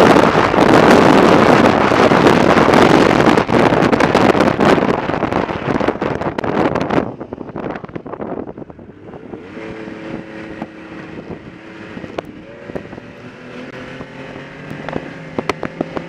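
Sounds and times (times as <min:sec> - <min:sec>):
snowmobile engine running: 0:00.0 - 0:16.0
wind on microphone: 0:00.0 - 0:16.0.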